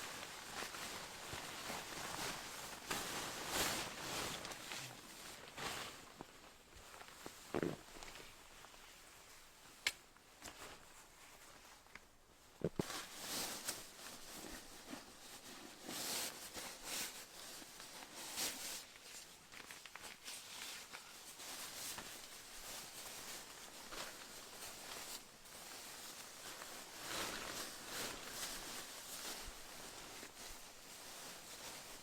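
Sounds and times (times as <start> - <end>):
soft rustling and scuffing: 0.0 - 32.0.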